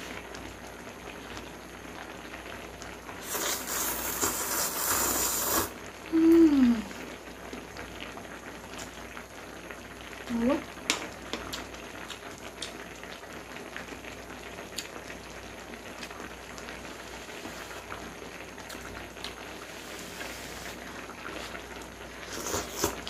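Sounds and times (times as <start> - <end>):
hotpot bubbling: 0.0 - 23.0.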